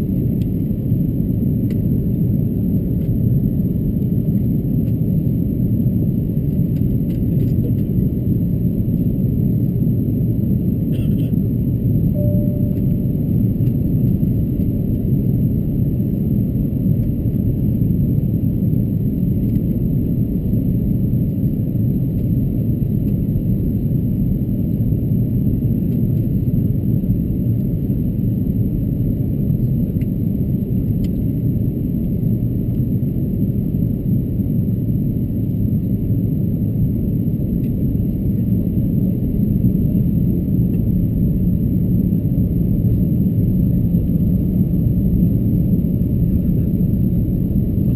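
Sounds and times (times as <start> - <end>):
airplane cabin engine drone: 0.0 - 47.9.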